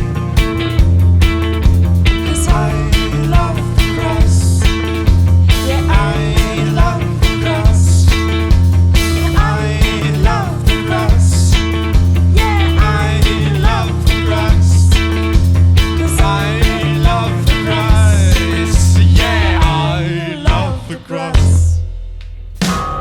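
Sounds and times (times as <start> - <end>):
bass guitar: 0.0 - 23.0
drums steady beat: 0.0 - 23.0.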